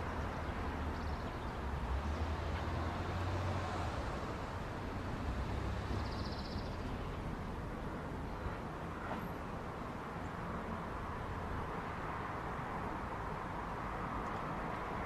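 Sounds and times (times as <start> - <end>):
parking lot ambience: 0.0 - 15.0.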